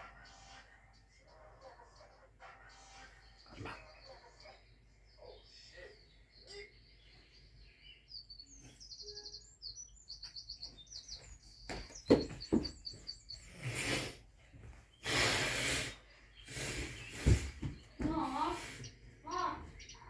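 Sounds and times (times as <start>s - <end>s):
small songbird chirping: 3.0s - 20.0s.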